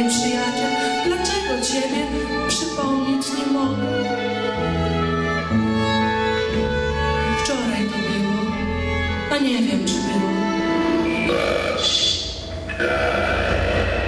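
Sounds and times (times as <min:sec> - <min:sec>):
violins playing: 0:00.0 - 0:12.8
low bowed notes: 0:00.0 - 0:14.0.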